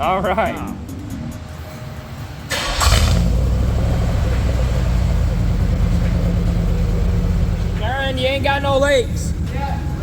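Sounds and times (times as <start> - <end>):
car engine starting and rumbling: 0.8 - 10.0.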